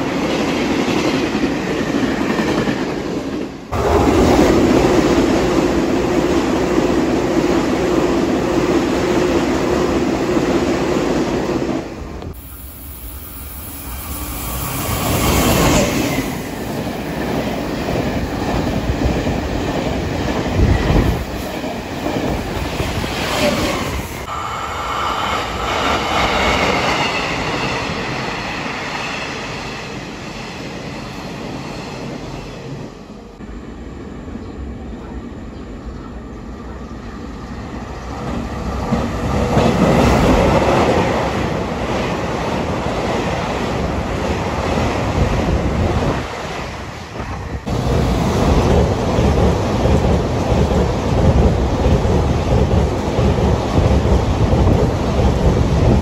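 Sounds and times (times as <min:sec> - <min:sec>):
train rumble: 0:00.0 - 0:56.0
train wheels on rails passing: 0:00.0 - 0:56.0.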